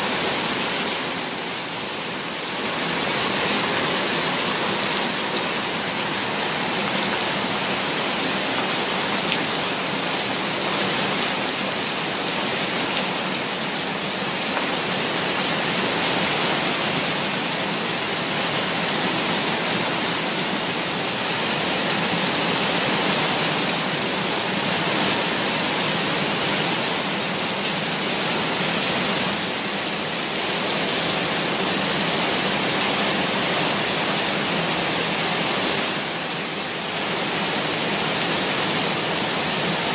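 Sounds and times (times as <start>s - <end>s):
floodwater rushing down steps: 0.0s - 39.9s
heavy rain falling: 0.0s - 39.9s.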